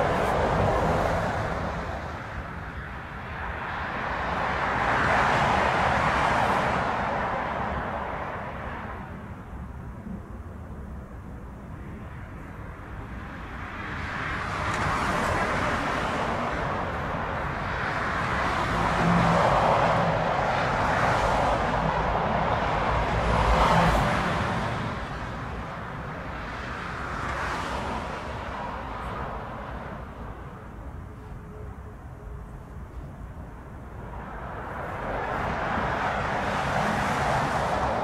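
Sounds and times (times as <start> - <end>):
jet engines whooshing and rumbling: 0.0 - 30.9, 33.4 - 38.0.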